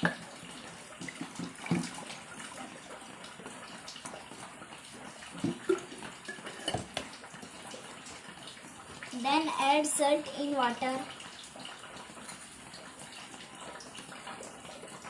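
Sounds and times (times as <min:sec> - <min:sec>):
water pouring into a glass: 0:00.0 - 0:15.0.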